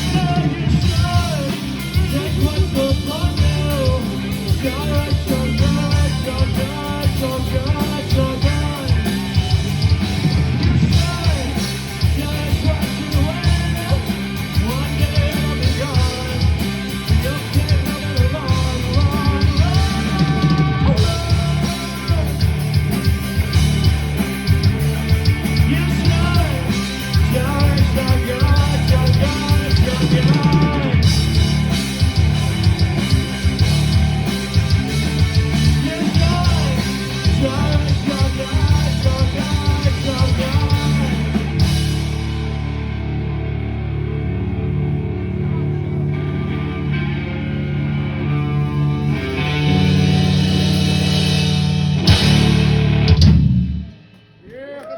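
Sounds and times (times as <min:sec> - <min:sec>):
rock music with vocals: 0:00.0 - 0:54.9.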